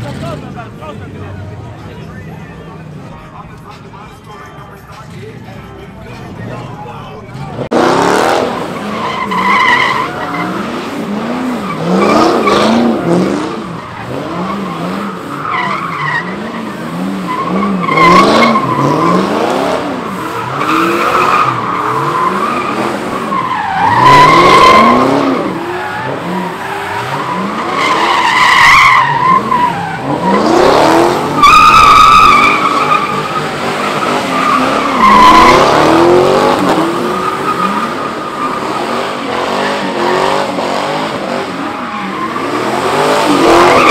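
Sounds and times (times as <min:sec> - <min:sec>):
car engines revving: 0:00.0 - 0:43.9
tires squealing: 0:00.0 - 0:43.9.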